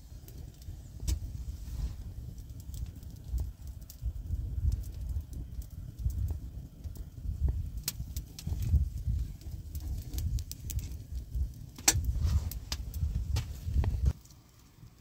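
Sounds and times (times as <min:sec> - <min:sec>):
wind buffeting microphone: 0:00.0 - 0:14.2
campfire crackling and popping: 0:00.0 - 0:15.0.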